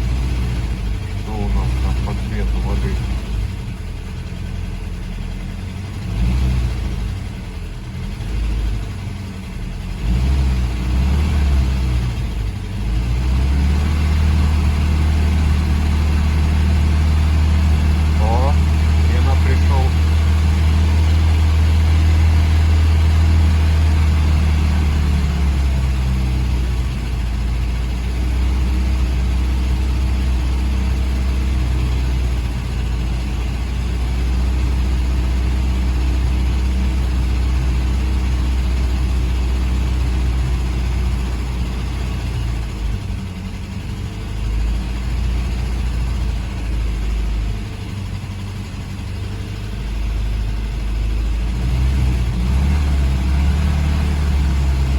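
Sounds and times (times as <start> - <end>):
car engine idling: 0.0 - 54.9.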